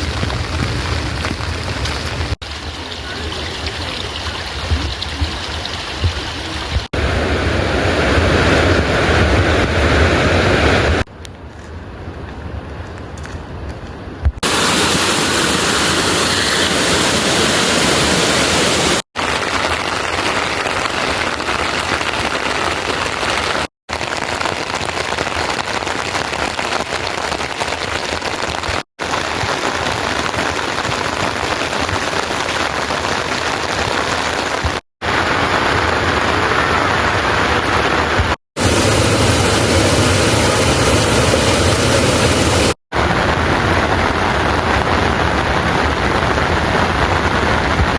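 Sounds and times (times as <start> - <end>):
heavy rain falling: 0.0 - 11.1, 14.4 - 47.9.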